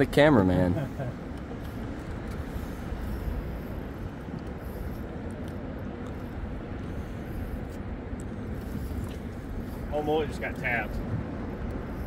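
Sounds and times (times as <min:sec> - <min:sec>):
rumble of wind and water: 0:00.0 - 0:12.0.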